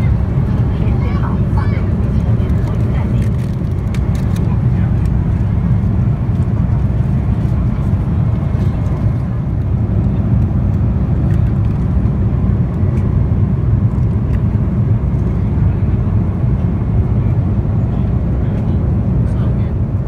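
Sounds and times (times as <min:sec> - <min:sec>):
airplane cabin engine roar: 0:00.0 - 0:20.0.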